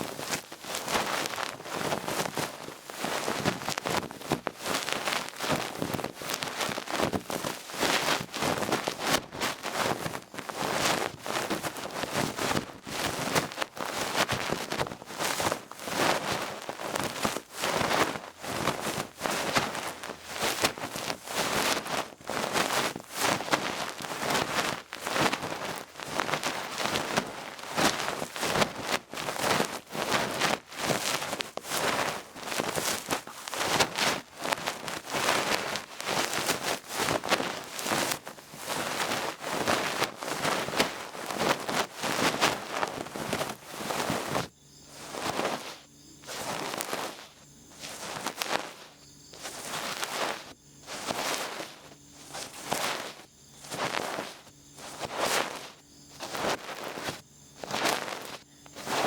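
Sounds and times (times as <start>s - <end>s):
ear pick rustling inside ear: 0.0s - 59.0s.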